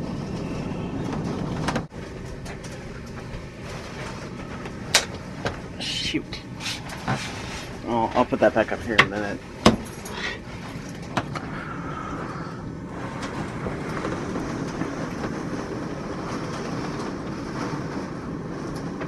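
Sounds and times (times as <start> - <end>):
strong wind blowing: 0.0 - 19.0.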